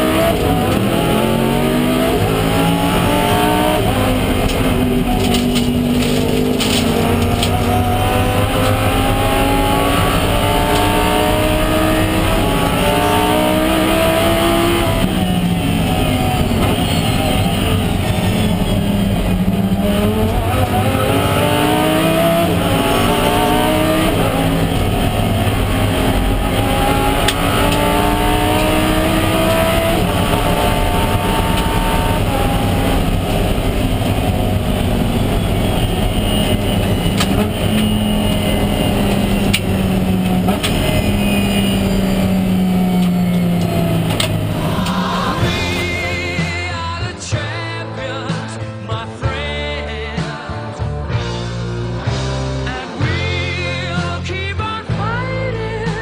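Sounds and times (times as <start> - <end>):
race car engine shifting gears: 0.0 - 46.6.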